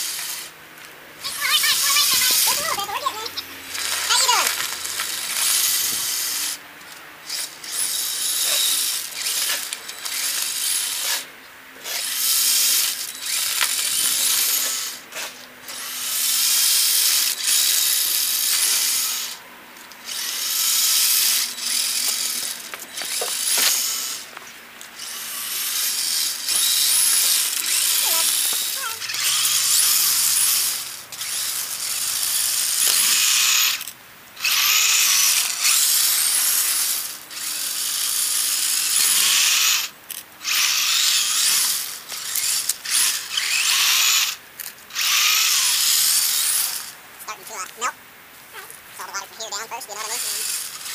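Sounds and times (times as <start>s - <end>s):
electric motor and gearbox whining: 0.0s - 50.9s.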